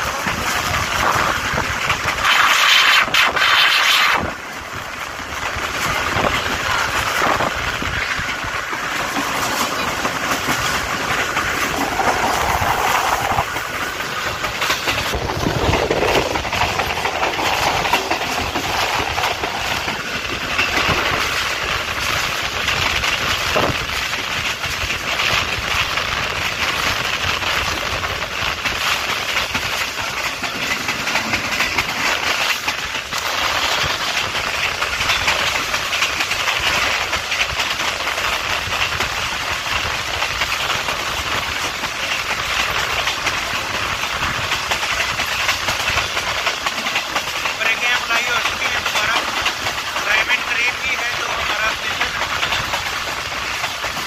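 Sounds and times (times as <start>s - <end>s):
passenger train rumbling: 0.0s - 54.0s
wheels knocking on rail joints: 0.0s - 54.0s.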